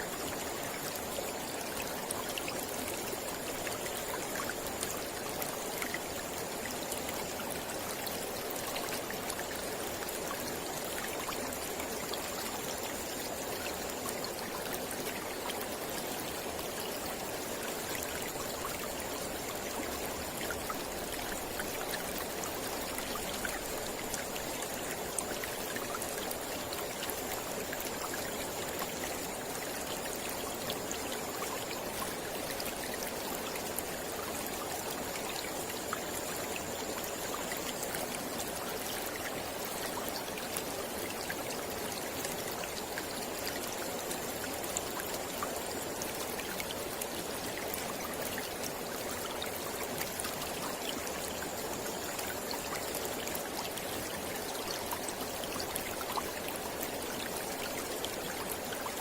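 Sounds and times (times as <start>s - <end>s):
small splashes and trickles: 0.0s - 59.0s.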